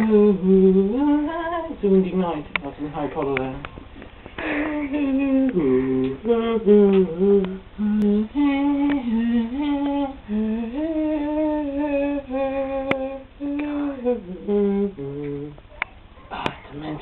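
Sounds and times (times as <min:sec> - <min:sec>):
person singing wordless tune: 0:00.0 - 0:02.4, 0:04.4 - 0:15.7.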